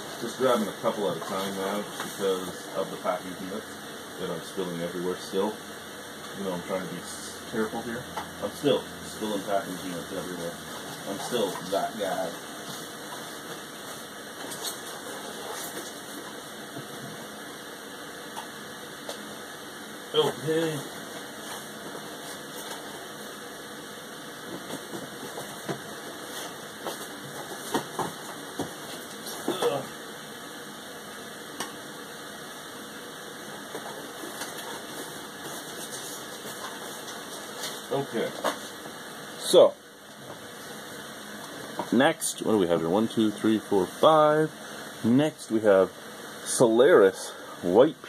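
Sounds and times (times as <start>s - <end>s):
room hiss: 0.0s - 48.0s.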